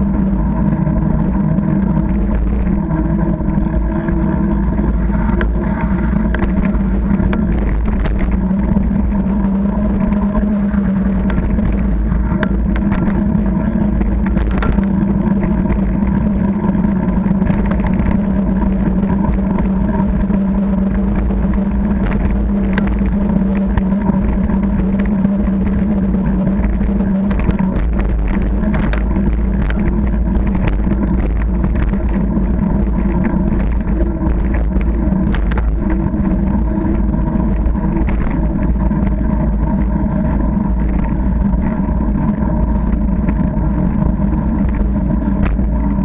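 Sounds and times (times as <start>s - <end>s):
bicycle tyres rumbling on tarmac: 0.0s - 46.0s
constant hum: 0.0s - 46.0s.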